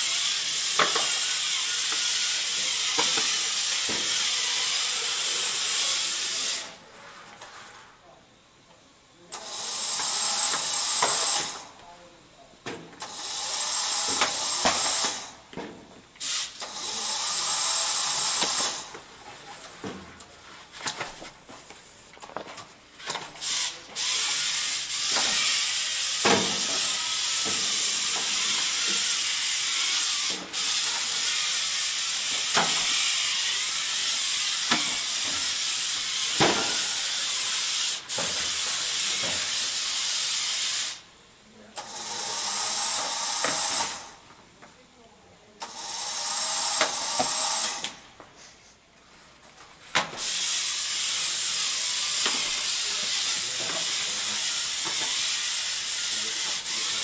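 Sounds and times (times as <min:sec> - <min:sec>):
robot motors whirring: 0:00.0 - 0:06.8, 0:09.3 - 0:11.7, 0:13.0 - 0:15.4, 0:16.2 - 0:20.0, 0:22.6 - 0:41.0, 0:41.8 - 0:44.2, 0:45.6 - 0:48.0, 0:50.0 - 0:57.0.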